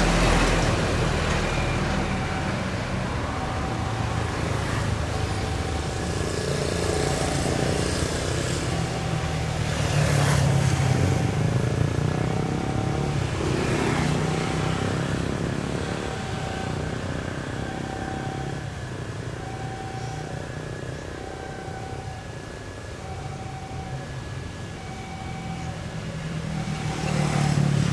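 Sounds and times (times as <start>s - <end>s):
diesel locomotive engine rumble: 0.0s - 27.9s.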